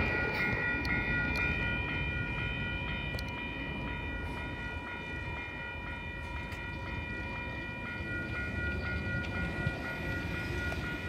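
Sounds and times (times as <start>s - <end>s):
crossing warning bell ringing: 0.0s - 11.0s
train rumble: 0.0s - 11.0s.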